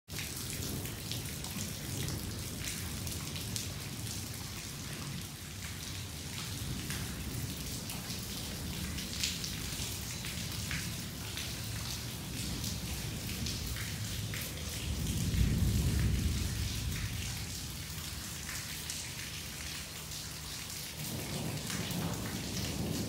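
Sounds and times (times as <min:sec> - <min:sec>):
heavy rain falling: 0:00.1 - 0:23.0
raindrops ticking: 0:00.1 - 0:23.0.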